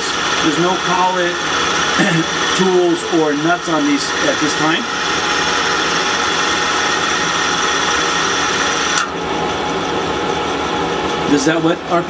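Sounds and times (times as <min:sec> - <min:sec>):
lathe spindles whirring and whining: 0:00.0 - 0:12.0.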